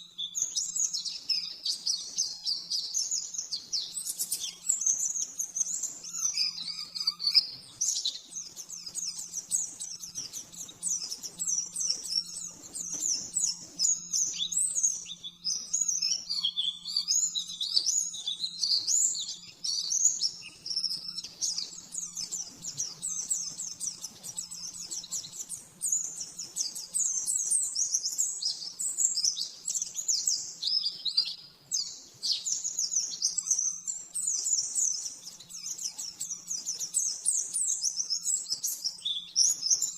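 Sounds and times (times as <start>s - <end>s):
bird singing high twittering: 0.0s - 39.9s.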